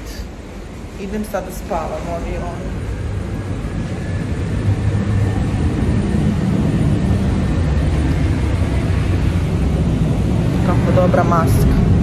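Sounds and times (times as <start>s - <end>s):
airliner low rumble: 0.0s - 12.0s.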